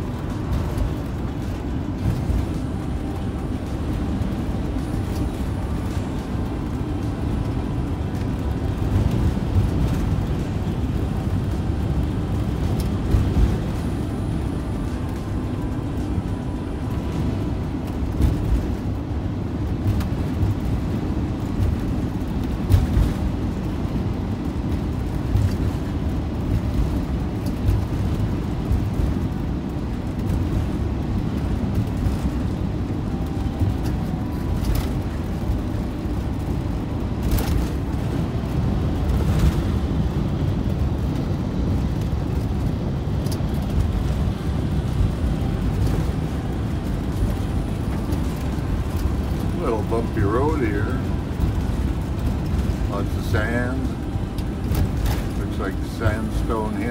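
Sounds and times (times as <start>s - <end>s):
road and engine drone: 0.0s - 56.9s.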